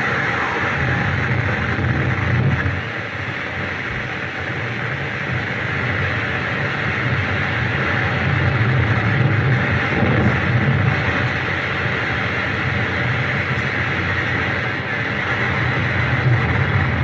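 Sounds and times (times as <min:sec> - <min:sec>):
distorted static noise music: 0:00.0 - 0:17.0
thin high whine: 0:00.0 - 0:17.0.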